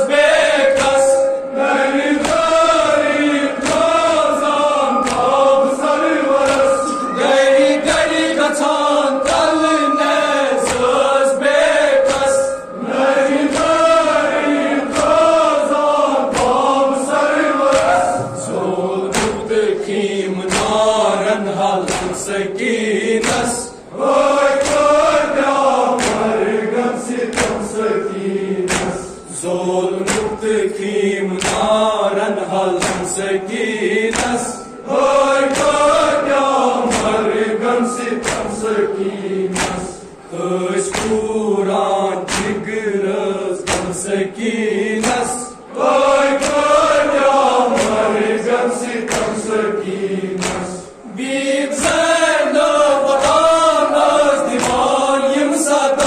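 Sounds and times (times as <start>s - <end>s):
group chanting in unison: 0.0s - 56.0s
sharp rhythmic beats: 0.0s - 56.0s.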